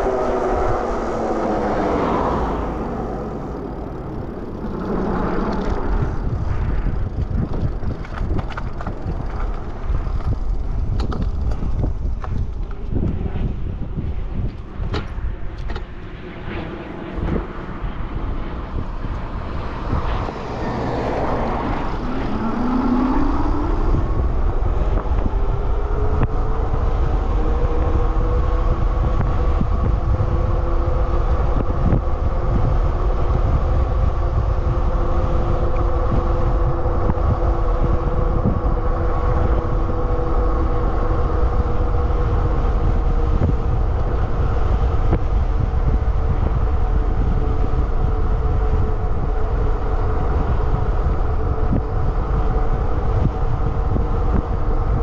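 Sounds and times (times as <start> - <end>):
electric bike motor whine: 0.0 - 55.0
wind rush on microphone: 0.0 - 55.0.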